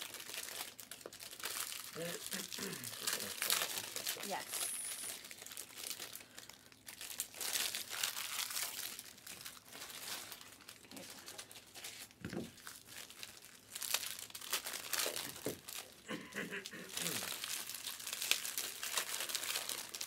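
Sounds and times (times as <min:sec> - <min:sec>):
plastic wrappers crinkling and tearing: 0:00.0 - 0:20.0.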